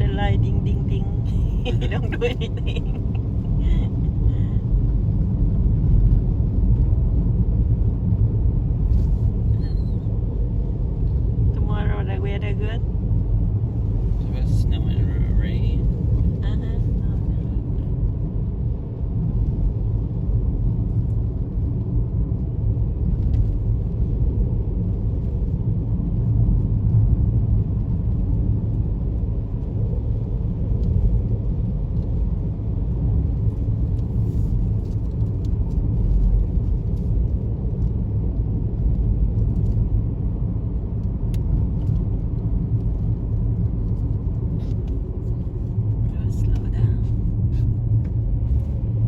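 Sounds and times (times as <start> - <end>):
car engine and tyre noise: 0.0 - 49.0.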